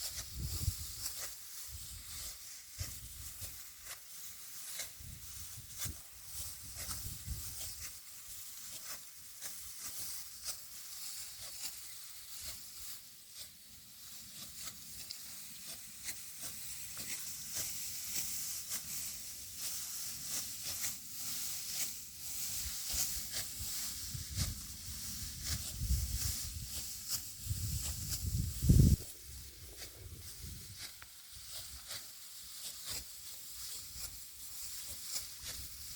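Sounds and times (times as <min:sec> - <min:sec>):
dry rice stalks rustling: 0:00.0 - 0:35.9.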